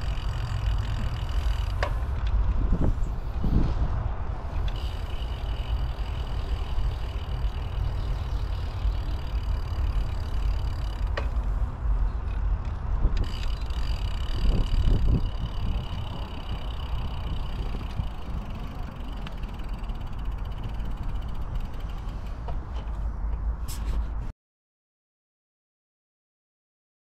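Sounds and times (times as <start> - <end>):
bicycle rolling noise: 0.0 - 24.3
wind rumble on microphone: 0.0 - 24.3.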